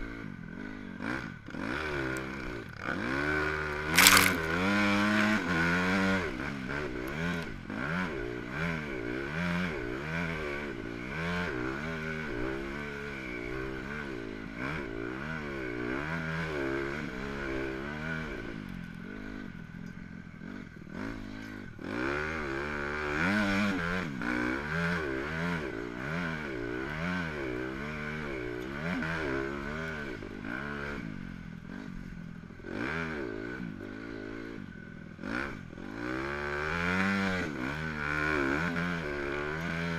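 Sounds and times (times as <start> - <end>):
motocross bike engine revving: 0.1 - 19.5, 20.4 - 34.6, 35.2 - 39.9.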